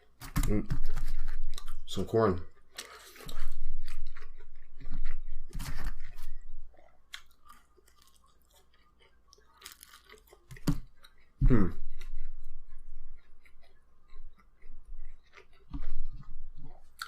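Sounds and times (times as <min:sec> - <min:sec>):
person chewing pizza: 0:00.0 - 0:17.0
crunching bites: 0:02.7 - 0:17.0.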